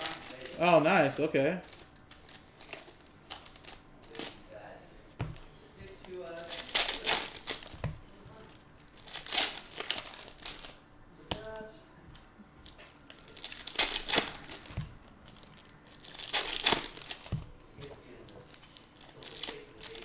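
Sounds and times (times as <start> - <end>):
foil wrappers crinkling and tearing: 0.0 - 4.7, 5.4 - 20.0.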